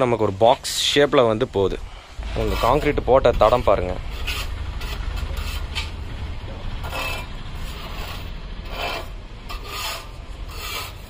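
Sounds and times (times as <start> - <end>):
steady low rumble: 0.9 - 10.6
scraping and rubbing: 1.7 - 11.0.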